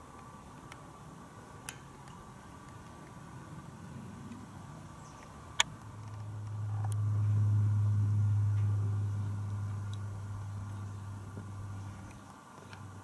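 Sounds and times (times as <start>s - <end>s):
car engine and exhaust droning: 2.4s - 13.0s.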